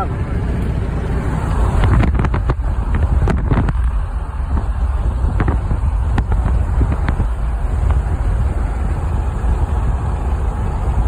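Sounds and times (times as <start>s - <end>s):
truck tyres rumbling on gravel: 0.1s - 11.0s.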